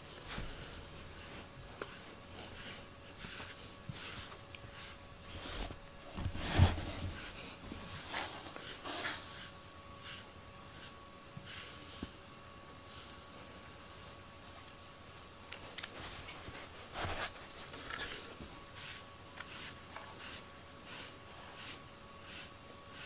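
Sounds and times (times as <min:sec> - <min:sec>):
comb scratching through cat fur: 0:00.2 - 0:14.7, 0:15.9 - 0:23.0.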